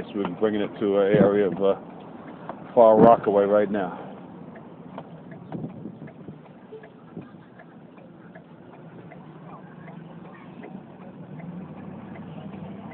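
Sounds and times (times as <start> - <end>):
engine and road hum: 0.0 - 12.9
light regular ticking: 0.0 - 12.9.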